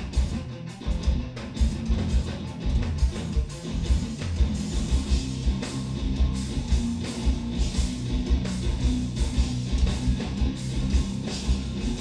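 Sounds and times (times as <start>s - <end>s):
drum kit: 0.0s - 12.0s
electric guitars: 0.0s - 12.0s.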